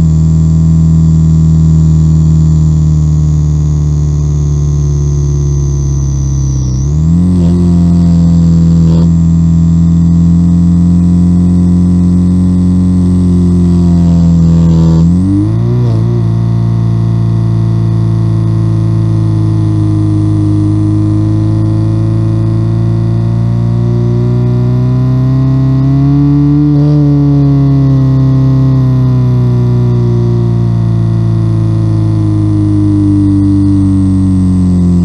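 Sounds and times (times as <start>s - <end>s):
electronic engine sound drone: 0.0s - 35.0s.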